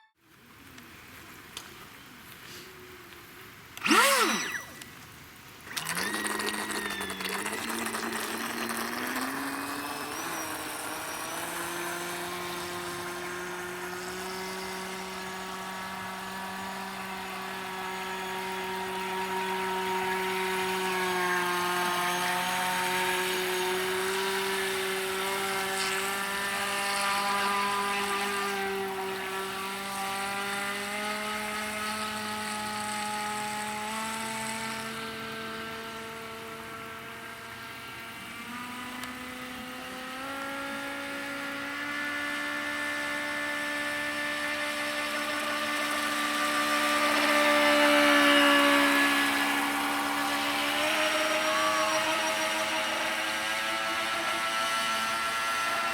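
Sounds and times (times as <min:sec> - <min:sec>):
electric motor whining: 0:03.7 - 0:55.9.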